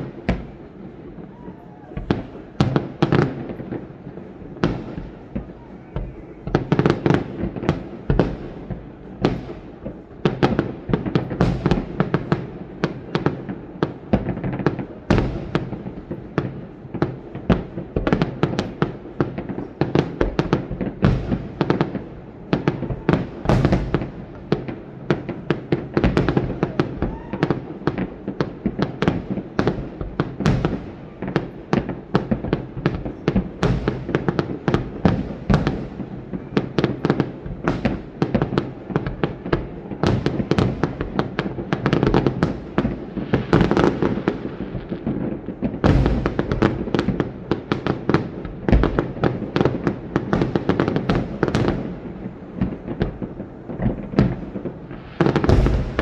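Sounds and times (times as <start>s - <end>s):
fireworks bursts and bangs: 0.0s - 56.0s.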